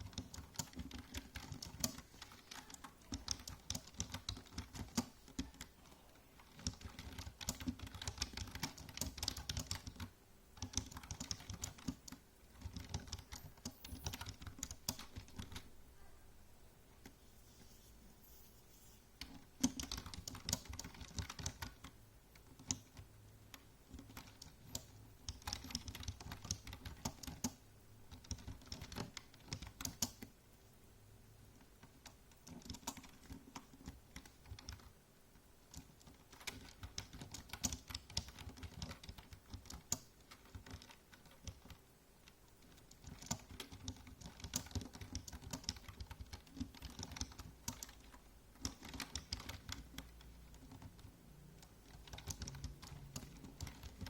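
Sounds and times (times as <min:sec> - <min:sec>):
typing on computer keyboard: 0:00.0 - 0:05.8, 0:06.4 - 0:15.7, 0:19.2 - 0:30.3, 0:31.8 - 0:35.0, 0:35.7 - 0:54.0.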